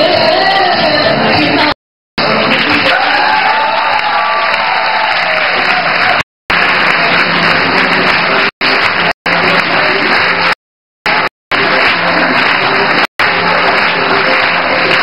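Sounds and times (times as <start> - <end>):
audience applauding: 2.2 - 15.0.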